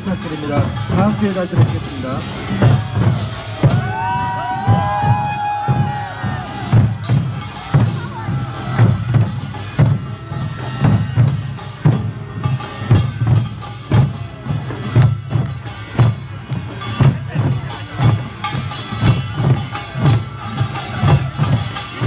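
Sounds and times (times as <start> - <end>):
folk drums playing a steady beat: 0.0 - 22.0.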